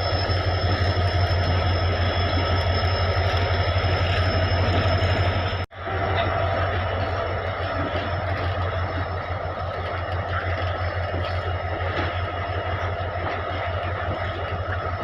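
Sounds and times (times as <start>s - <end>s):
goods train rumbling: 0.0s - 15.0s.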